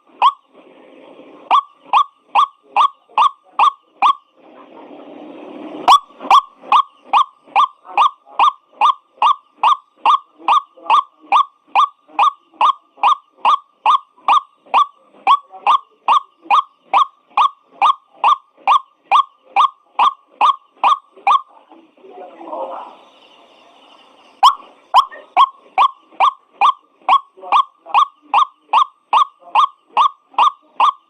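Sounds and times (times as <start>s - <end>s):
waterhen repeated call: 0.0s - 0.5s, 1.5s - 4.3s, 5.9s - 21.6s, 24.4s - 31.0s.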